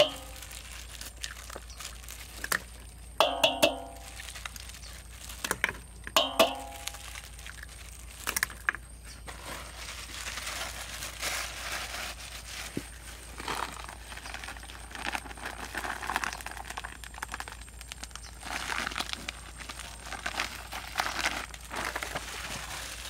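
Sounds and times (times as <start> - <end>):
plastic packet crinkling: 0.0 - 23.0.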